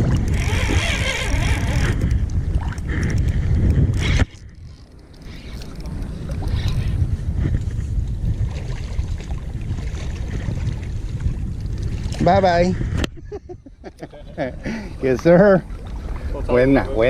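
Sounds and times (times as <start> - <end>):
soft hiss of wind and water: 0.0 - 17.0
wind buffeting microphone: 0.0 - 17.0.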